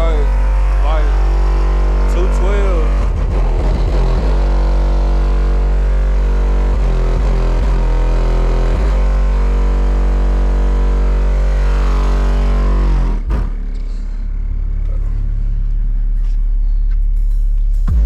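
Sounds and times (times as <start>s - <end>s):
deep car stereo bass: 0.0s - 18.0s
droning pitched tone: 0.0s - 18.0s.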